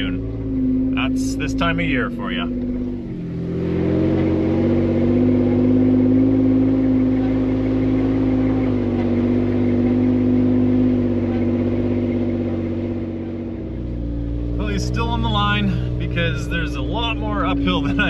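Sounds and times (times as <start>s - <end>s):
vehicle engine running under load: 0.0s - 18.0s.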